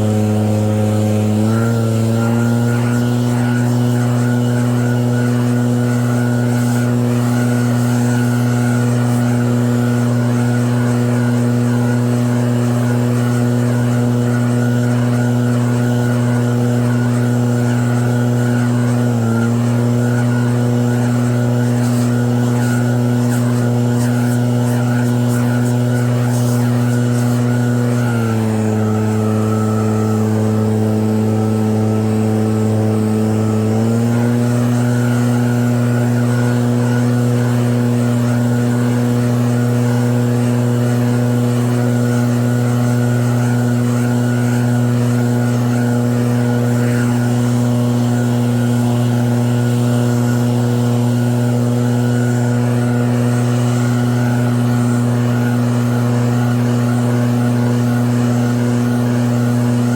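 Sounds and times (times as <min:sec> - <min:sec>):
snow blower engine running: 0:00.0 - 0:59.9.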